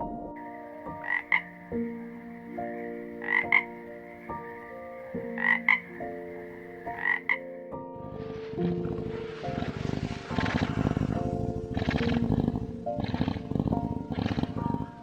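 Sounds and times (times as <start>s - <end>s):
soft background music: 0.0s - 15.0s
frog croaking: 0.5s - 15.0s.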